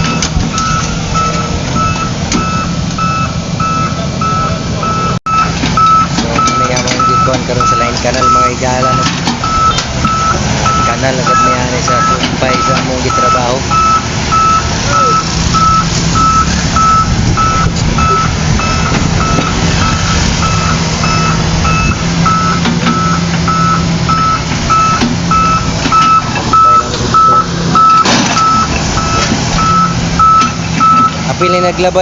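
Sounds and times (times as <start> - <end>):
diesel engine hum: 0.0 - 32.0
reversing alarm beeping: 0.0 - 32.0.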